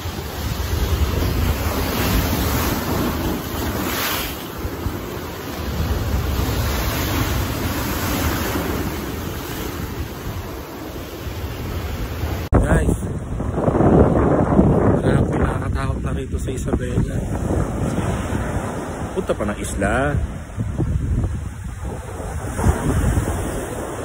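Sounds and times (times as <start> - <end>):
heavy surf breaking: 0.0 - 24.0
wind buffeting microphone: 0.0 - 24.0.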